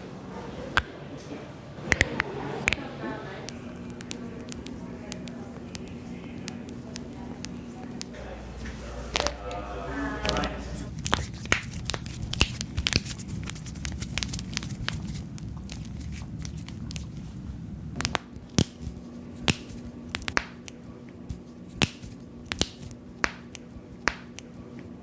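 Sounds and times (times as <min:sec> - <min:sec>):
low background hum: 0:00.0 - 0:25.0
knuckles cracking: 0:01.9 - 0:08.2, 0:10.3 - 0:17.2, 0:18.0 - 0:24.9.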